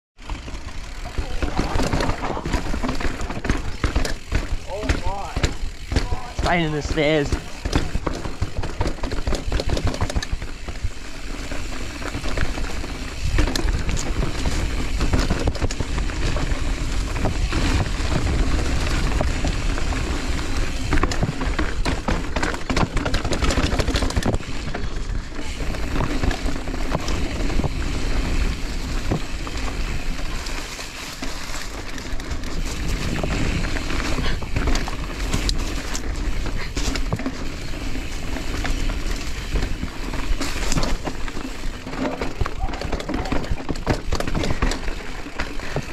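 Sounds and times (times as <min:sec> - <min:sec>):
bike clattering over bumps: 0:00.2 - 0:45.9
bike tyres on dirt and rock: 0:00.2 - 0:45.9.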